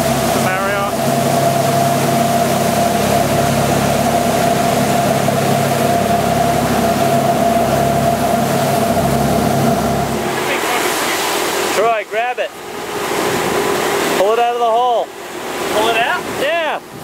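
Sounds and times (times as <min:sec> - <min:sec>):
boat engine running: 0:00.0 - 0:17.0
water rushing: 0:00.0 - 0:17.0
wind: 0:00.0 - 0:17.0.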